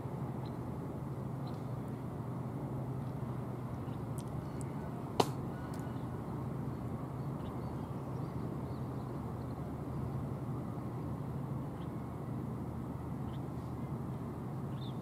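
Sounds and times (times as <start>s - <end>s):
faint hum: 0.0s - 15.0s
low outdoor rumble: 0.0s - 15.0s.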